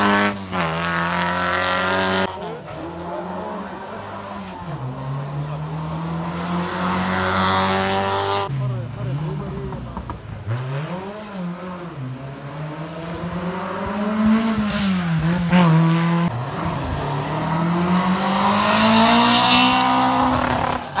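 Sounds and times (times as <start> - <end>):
rally car engine climbing in pitch: 0.0 - 21.0.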